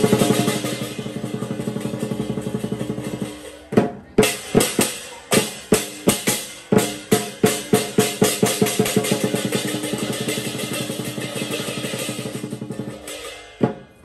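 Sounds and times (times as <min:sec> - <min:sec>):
drum roll: 0:00.0 - 0:14.0
loud drum strokes: 0:00.0 - 0:14.0.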